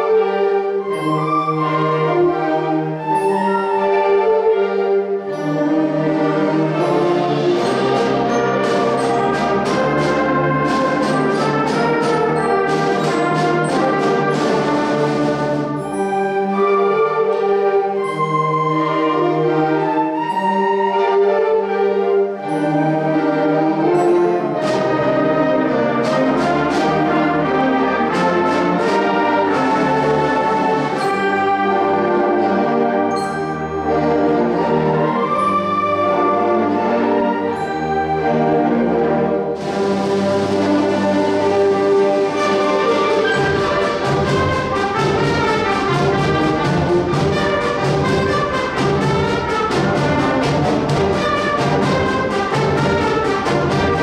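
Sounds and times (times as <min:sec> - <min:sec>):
brass and woodwind chords: 0:00.0 - 0:54.0
percussion strokes: 0:05.3 - 0:17.2, 0:22.4 - 0:54.0.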